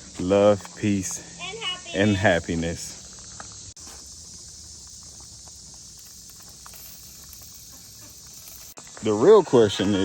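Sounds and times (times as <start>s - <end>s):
high-pitched insect hiss: 0.0s - 10.0s.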